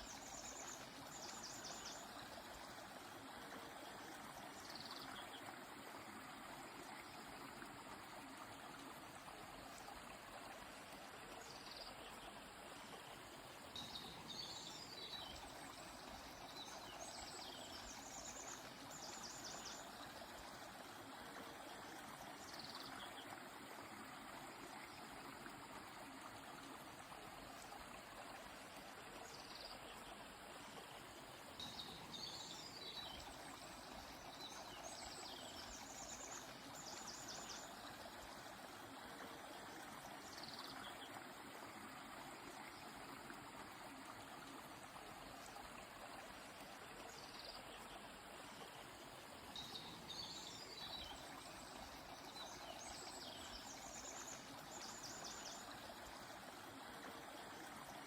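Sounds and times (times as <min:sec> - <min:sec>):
faint river rushing: 0:00.0 - 0:58.0.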